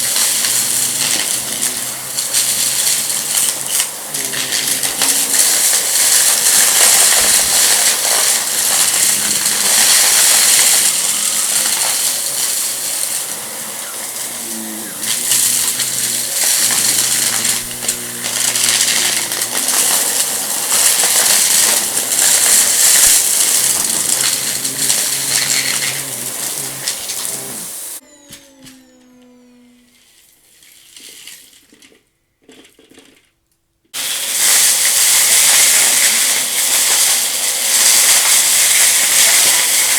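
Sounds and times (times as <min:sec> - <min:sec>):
debris rattling in vacuum: 0:00.0 - 0:28.0, 0:34.0 - 0:39.9
vacuum motor winding down: 0:00.0 - 0:30.3, 0:34.0 - 0:39.9
vacuum cleaner running: 0:00.0 - 0:30.4, 0:34.0 - 0:39.9.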